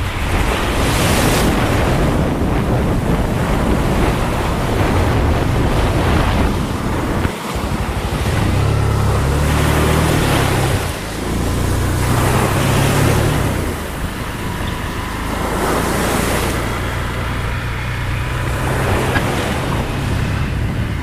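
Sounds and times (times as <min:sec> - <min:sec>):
motorcycle engine: 0:00.0 - 0:21.0
wind buffeting microphone: 0:00.0 - 0:21.0.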